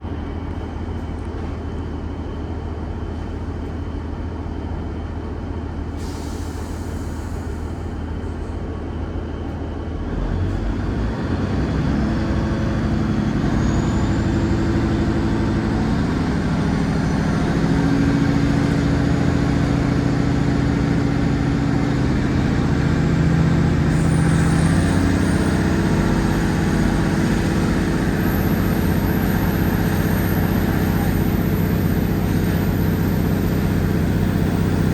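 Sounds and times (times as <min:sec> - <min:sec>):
train diesel engines accelerating: 0:00.0 - 0:34.9.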